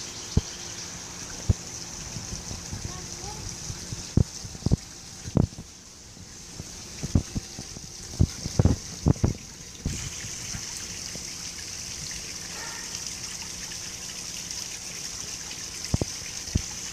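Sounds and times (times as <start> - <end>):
waterfall splashing into pond: 0.0 - 16.9.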